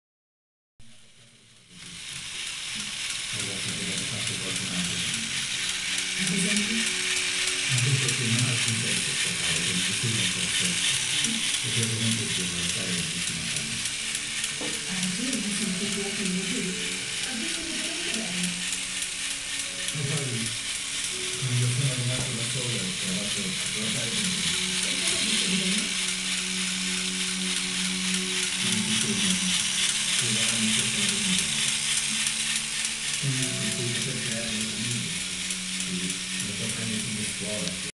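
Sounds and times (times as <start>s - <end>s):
mechanism chattering: 1.7s - 37.9s
toy truck motor whirring: 1.7s - 37.9s.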